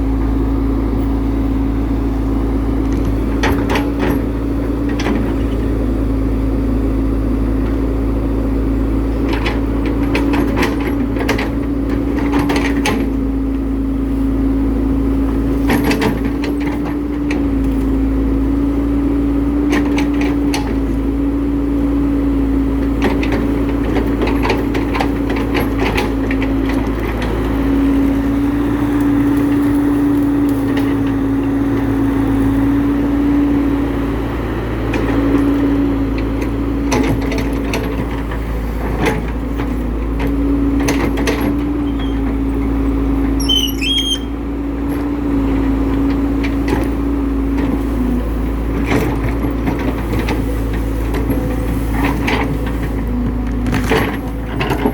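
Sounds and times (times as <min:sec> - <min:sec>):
excavator diesel engine running: 0:00.0 - 0:54.9
digging knocks and clunks: 0:09.1 - 0:13.7, 0:15.3 - 0:54.9.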